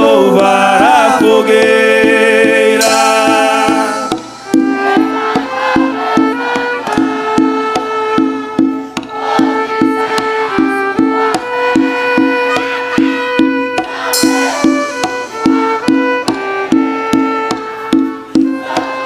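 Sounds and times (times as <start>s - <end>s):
instrumental folk dance music: 0.9s - 19.0s.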